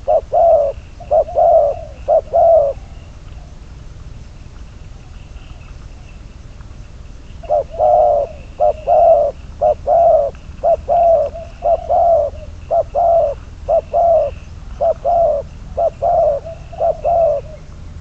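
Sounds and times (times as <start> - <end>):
dove cooing: 0.0 - 6.3, 7.0 - 18.0.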